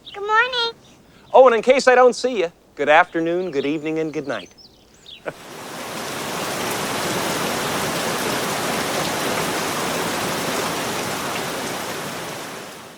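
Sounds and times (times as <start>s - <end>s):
steady rain hiss: 0.0s - 12.9s.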